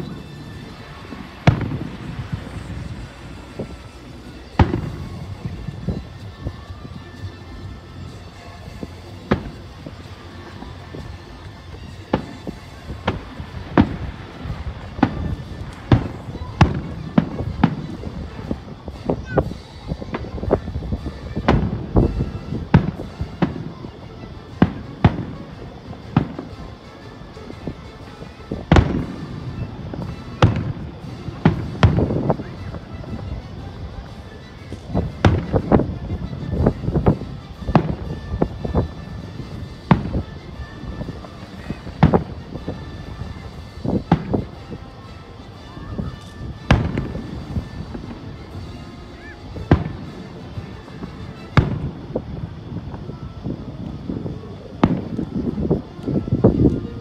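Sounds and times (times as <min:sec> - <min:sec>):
firework shells bursting: 0:00.0 - 0:44.8, 0:45.9 - 0:53.1.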